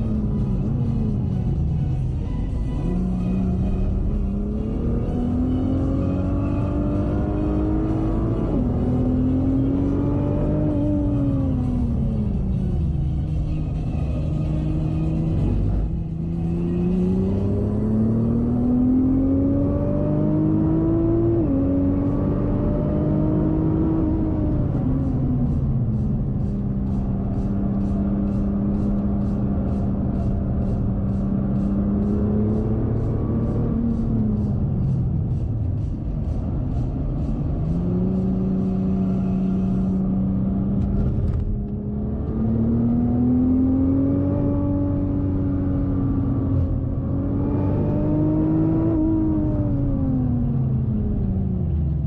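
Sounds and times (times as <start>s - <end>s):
car engine revving: 0.0s - 52.0s
tyre and road noise: 0.0s - 52.0s.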